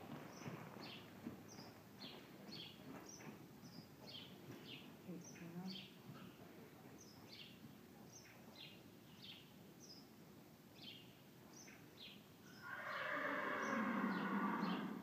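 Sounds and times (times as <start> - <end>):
small birds chirping: 0.2 - 10.2, 10.8 - 15.0.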